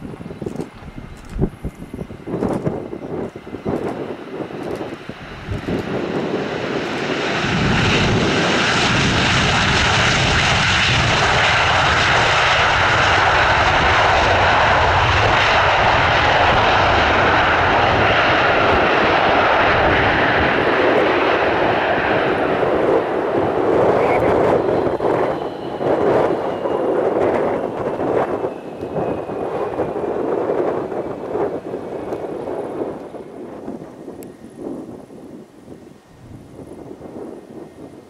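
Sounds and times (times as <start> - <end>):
jet engines running loud: 0.0 - 38.0.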